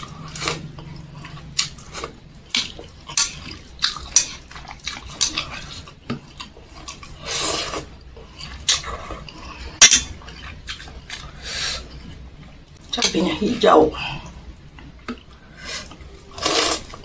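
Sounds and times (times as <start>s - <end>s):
noodles slurped: 0.0s - 12.2s, 15.2s - 17.0s.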